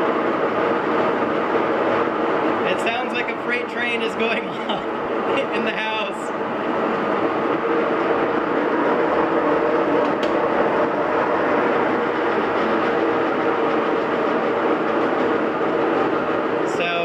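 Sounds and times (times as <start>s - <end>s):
washing machine spin roar: 0.0s - 17.0s.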